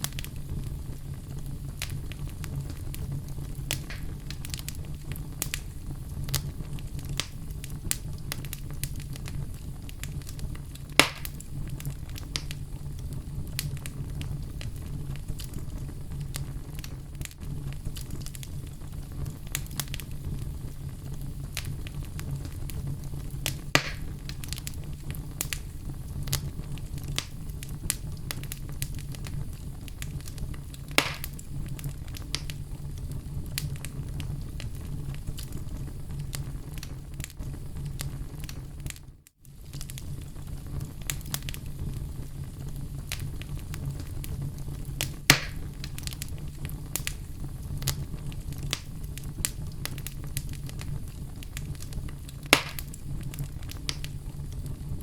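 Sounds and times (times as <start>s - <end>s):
logs burning in a fireplace: 0.0s - 55.0s.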